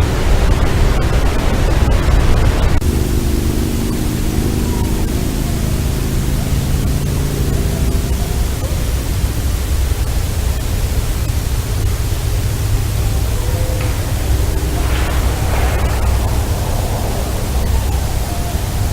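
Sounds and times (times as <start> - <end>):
loud steady hiss: 0.0 - 18.9
low drone of steady tones: 0.0 - 18.9.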